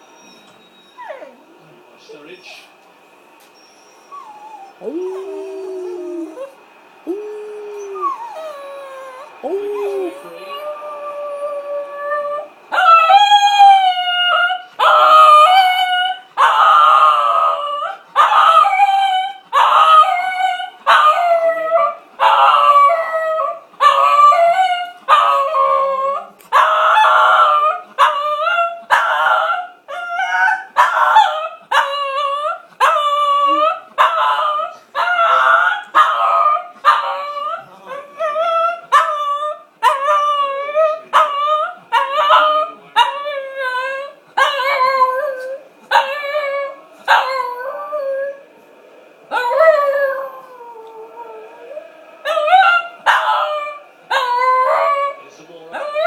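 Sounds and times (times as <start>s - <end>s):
dog howling: 3.6s - 48.5s, 49.3s - 56.0s.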